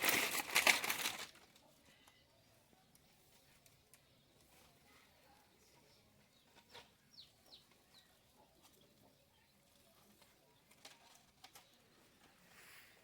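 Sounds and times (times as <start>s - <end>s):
faint bird chirps: 1.4s - 13.0s.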